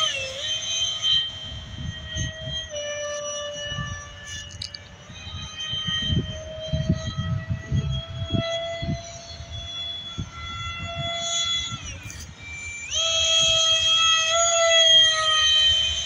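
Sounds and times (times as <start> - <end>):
electric fan motor whining: 0.0 - 16.0
wind on microphone: 0.0 - 16.0.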